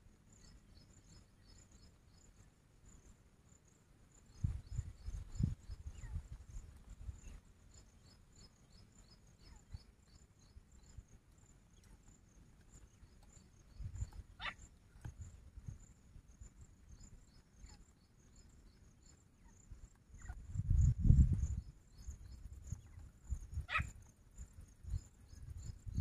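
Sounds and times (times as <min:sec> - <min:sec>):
insects chirping: 0:00.1 - 0:26.0.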